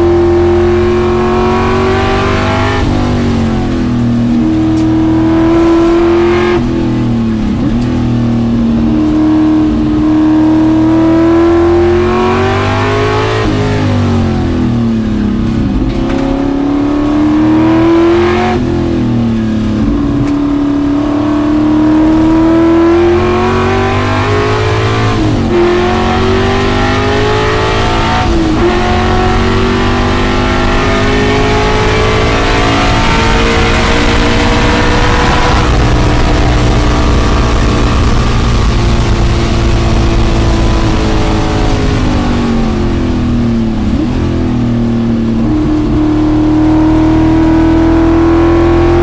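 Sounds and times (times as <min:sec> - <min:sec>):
car engine under hard throttle: 0:00.0 - 0:49.0.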